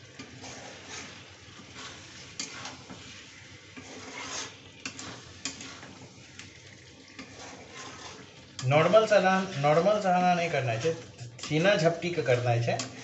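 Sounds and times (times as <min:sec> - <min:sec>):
thick sauce sizzling: 0:00.0 - 0:13.0
metal spatula scraping pan: 0:00.2 - 0:13.0.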